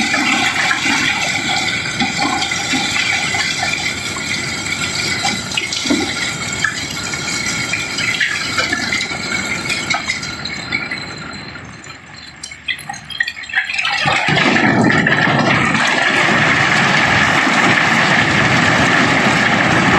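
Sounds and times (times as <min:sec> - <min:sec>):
stones pouring and rattling: 0:00.0 - 0:11.4, 0:12.4 - 0:19.9.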